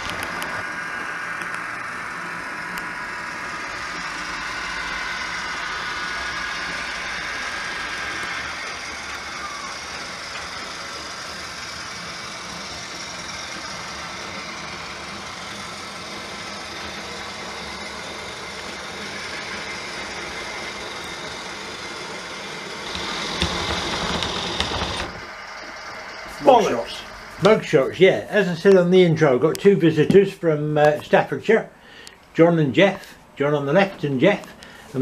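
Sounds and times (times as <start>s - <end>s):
model train diesel engine sound: 0.0s - 35.0s
model train running on track: 0.4s - 29.0s.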